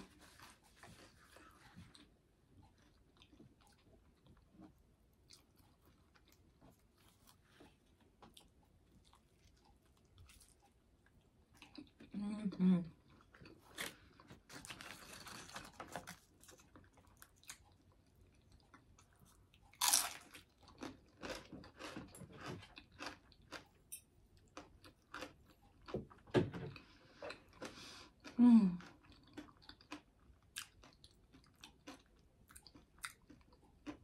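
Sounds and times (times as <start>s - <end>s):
person chewing food: 0.0s - 12.2s, 13.0s - 34.0s.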